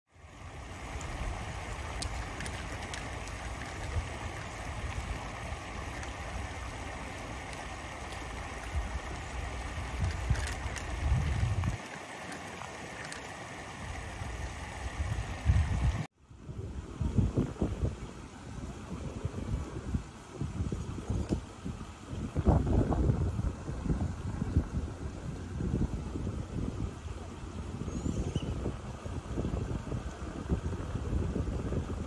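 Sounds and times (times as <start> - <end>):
steady outdoor hiss: 0.1 - 32.0
wind buffeting microphone: 0.9 - 11.8, 13.8 - 32.0.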